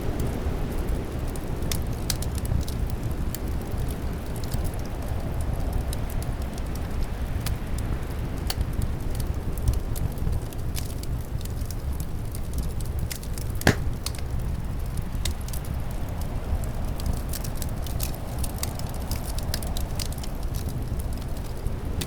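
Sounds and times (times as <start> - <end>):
low rumble of wind: 0.0 - 22.0
wood fire crackling: 0.1 - 22.0.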